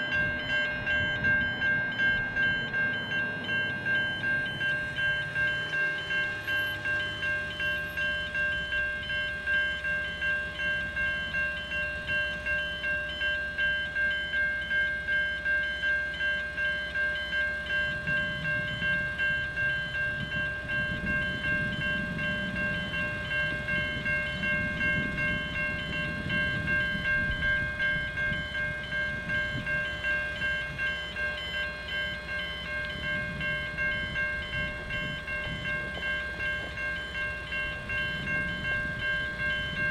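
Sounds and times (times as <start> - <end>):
level crossing bells ringing: 0.0 - 39.9
train rumbling past: 0.0 - 39.9.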